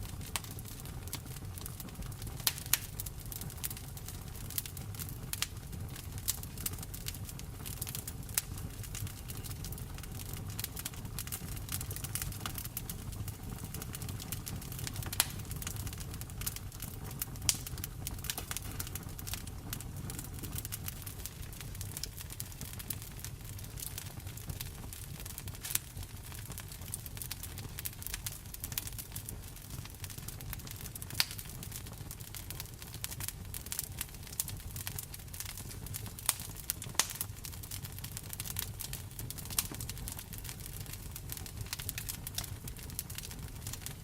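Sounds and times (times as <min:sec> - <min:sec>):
low rain rumble: 0:00.0 - 0:44.0
wood fire crackling and popping: 0:00.0 - 0:44.0.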